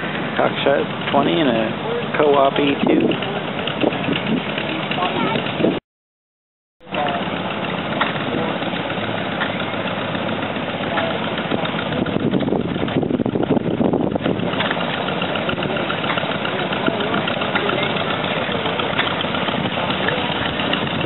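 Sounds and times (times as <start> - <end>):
engine idling: 0.0 - 5.8, 6.8 - 21.0.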